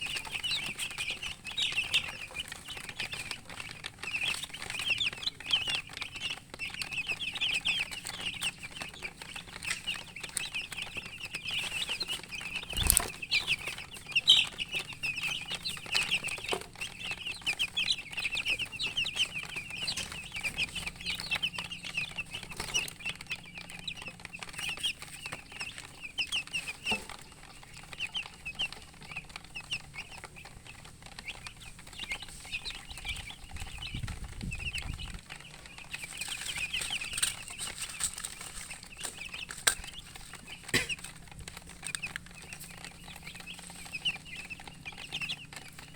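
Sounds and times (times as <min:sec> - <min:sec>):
baby chicks peeping: 0:00.0 - 0:45.9.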